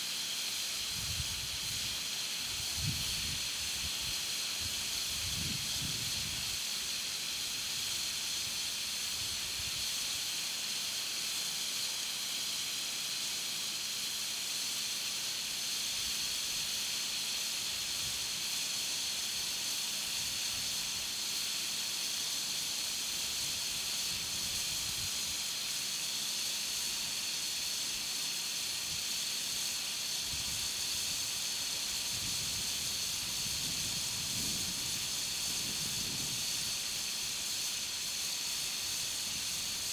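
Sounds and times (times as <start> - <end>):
air hissing from inner tube: 0.0 - 39.9.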